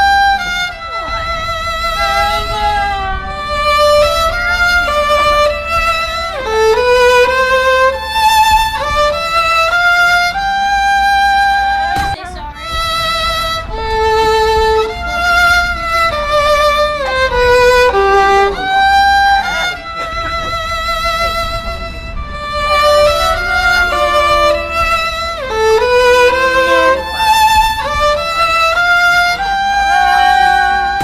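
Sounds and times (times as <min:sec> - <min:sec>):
slow violin melody: 0:00.0 - 0:31.0.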